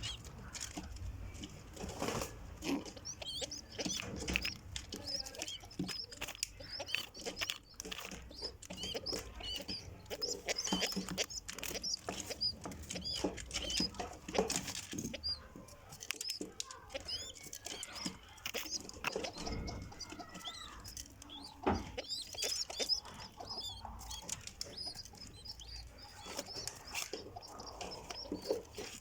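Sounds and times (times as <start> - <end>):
pigeon squabs squeaking: 0.0 - 29.0.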